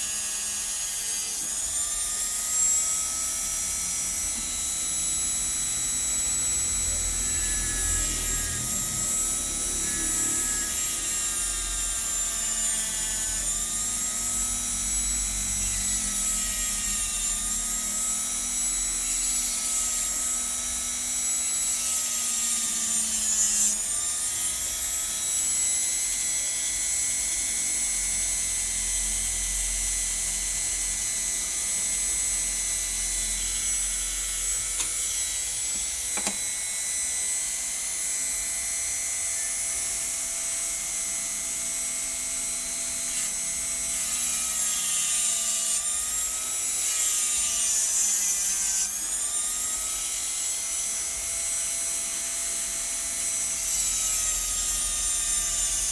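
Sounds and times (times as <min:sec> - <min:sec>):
electric grinder whining: 0:00.0 - 0:55.9.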